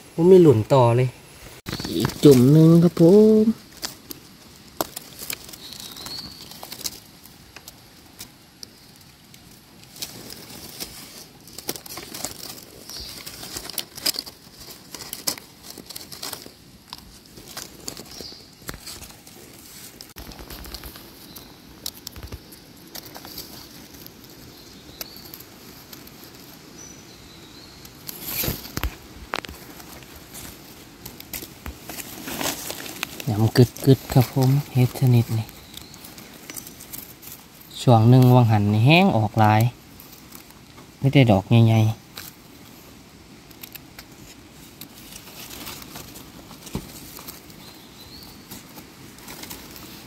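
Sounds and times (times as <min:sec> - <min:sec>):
leaves rustling: 0:00.0 - 0:50.0.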